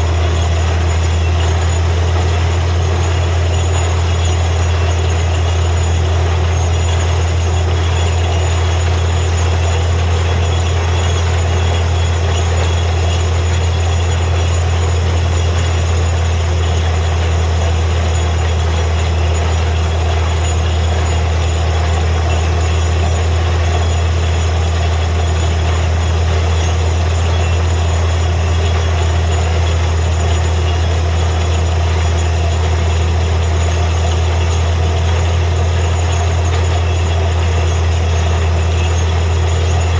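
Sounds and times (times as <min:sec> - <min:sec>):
drilling rig droning: 0:00.0 - 0:39.9.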